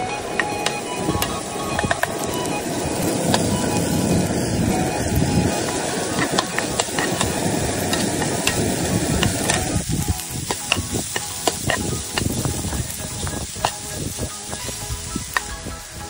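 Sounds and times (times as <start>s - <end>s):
vegetables sizzling in a frying pan: 0.0s - 16.0s
spoon scraping a pan: 0.2s - 15.8s.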